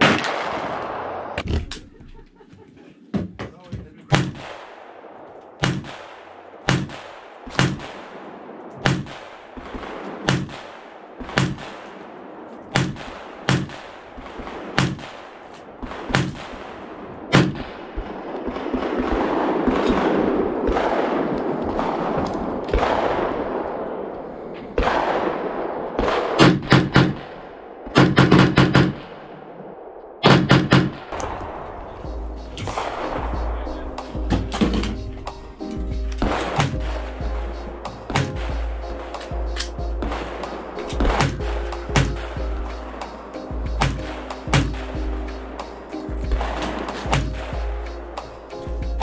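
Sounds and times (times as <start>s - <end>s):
rifle shots: 0.0s - 1.7s, 4.1s - 48.7s.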